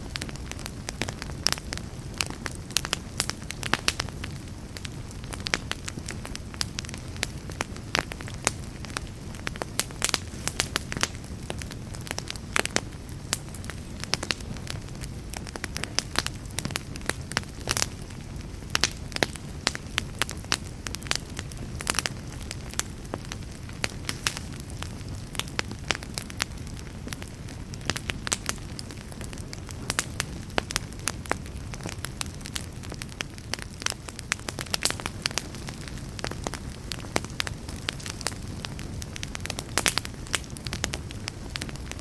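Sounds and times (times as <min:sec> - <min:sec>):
fire crackling and popping: 0:00.0 - 0:42.0
wood fire rumbling: 0:00.0 - 0:42.0.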